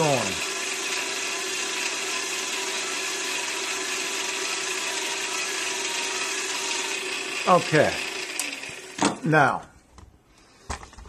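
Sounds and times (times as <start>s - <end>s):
lathe cutting metal: 0.0s - 9.1s
cordless drill running: 0.0s - 9.3s.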